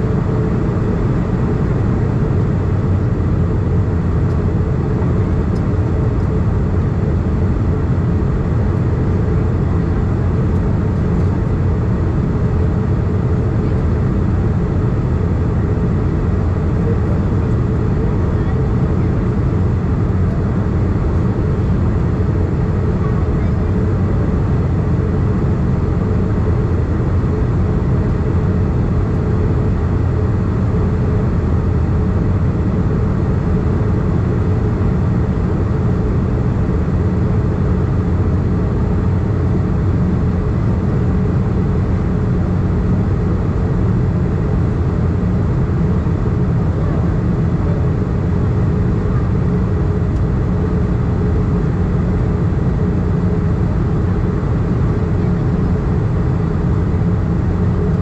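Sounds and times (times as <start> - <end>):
airflow and engine drone: 0.0 - 58.0
faint steady hum: 0.0 - 58.0.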